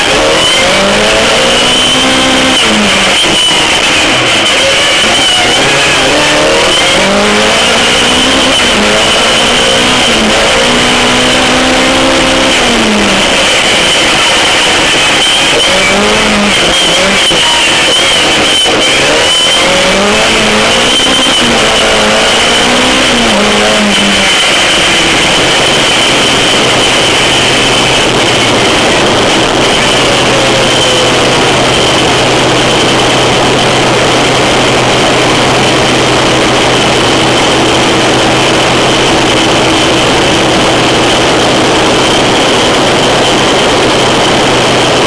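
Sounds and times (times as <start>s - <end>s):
loud steady rushing noise: 0.0s - 45.0s
race car engine revving: 0.0s - 45.0s
steady high whine: 0.0s - 45.0s.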